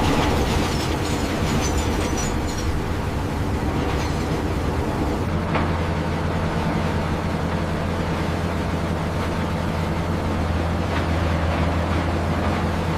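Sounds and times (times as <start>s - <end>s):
heavy machinery humming: 0.0s - 12.9s.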